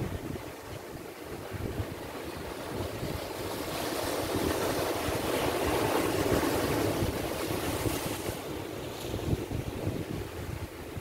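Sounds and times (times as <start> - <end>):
waves breaking on rocky shore: 0.0 - 11.0
wind buffeting microphone: 0.0 - 11.0.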